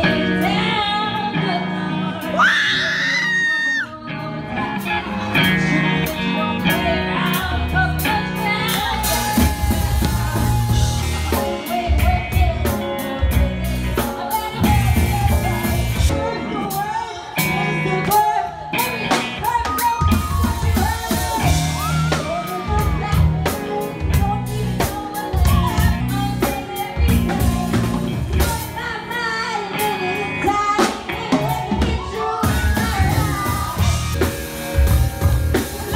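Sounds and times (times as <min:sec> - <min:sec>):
bass guitar: 0:00.0 - 0:35.9
electric guitar: 0:00.0 - 0:35.9
woman singing lead: 0:00.0 - 0:35.9
drum kit: 0:04.7 - 0:35.9.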